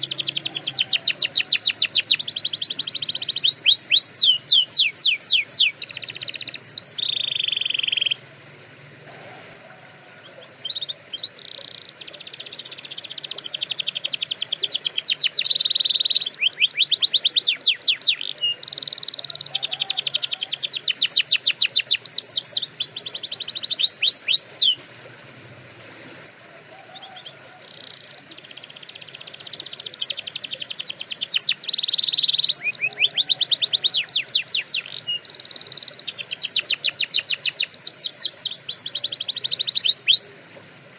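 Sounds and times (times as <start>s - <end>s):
canary singing trills: 0.0s - 8.2s, 9.1s - 24.9s, 26.1s - 40.4s.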